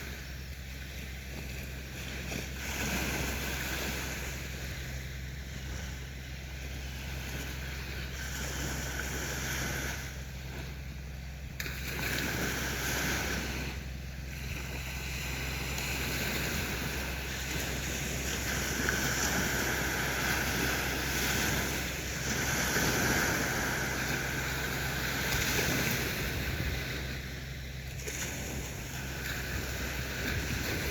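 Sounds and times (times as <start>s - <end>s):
sea waves washing onto beach: 0.0s - 30.9s
steady low hum: 0.0s - 30.9s.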